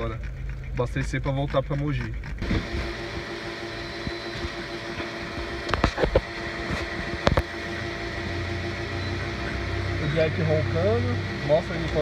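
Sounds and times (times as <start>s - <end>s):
engine hum with regular pulse: 0.0s - 12.0s.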